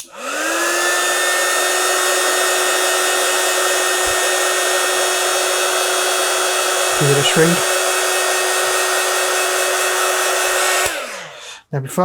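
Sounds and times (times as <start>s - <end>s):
heat gun fan whining: 0.0s - 11.5s.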